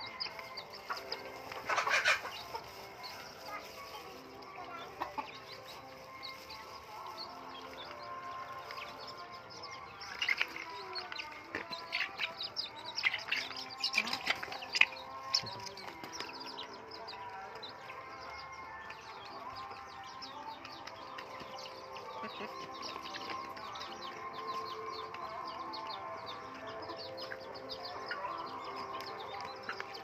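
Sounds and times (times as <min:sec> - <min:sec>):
chickens clucking: 0:00.0 - 0:30.0
chicks peeping: 0:00.0 - 0:30.0.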